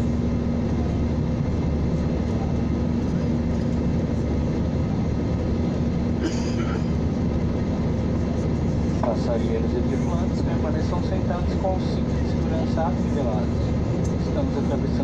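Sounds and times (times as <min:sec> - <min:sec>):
constant low hum: 0:00.0 - 0:15.0
jet engines droning: 0:00.0 - 0:15.0.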